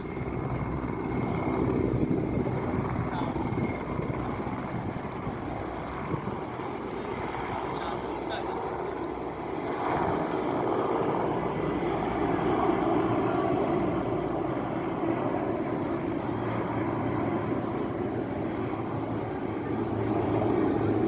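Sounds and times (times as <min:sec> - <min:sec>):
helicopter flying overhead: 0:00.0 - 0:21.0.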